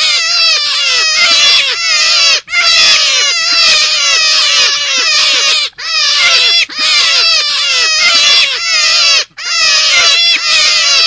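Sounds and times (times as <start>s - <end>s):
rabbit squealing: 0.0s - 11.0s.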